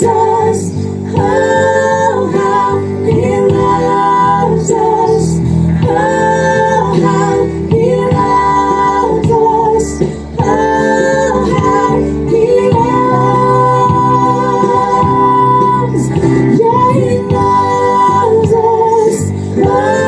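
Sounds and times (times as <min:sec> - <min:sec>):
instrumental accompaniment: 0:00.0 - 0:20.0
woman singing long notes: 0:00.0 - 0:20.0.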